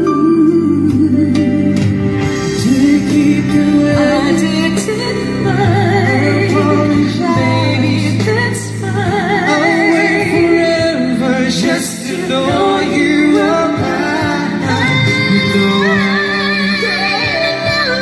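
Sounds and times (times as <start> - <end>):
backing track chords: 0.0 - 18.0
men singing a ballad: 0.0 - 18.0.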